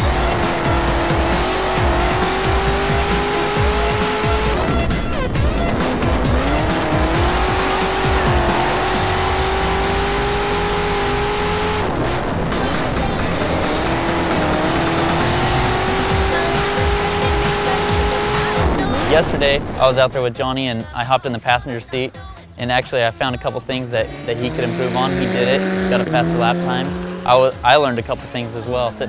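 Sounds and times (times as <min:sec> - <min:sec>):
buggy engine revving hard: 0:00.0 - 0:19.9, 0:23.5 - 0:29.0.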